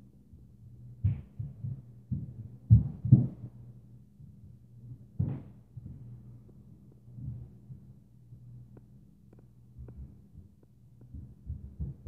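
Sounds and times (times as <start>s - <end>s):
steady low hum: 0.0s - 12.0s
footsteps thudding through ceiling: 0.3s - 3.6s, 4.2s - 8.0s, 9.3s - 12.0s.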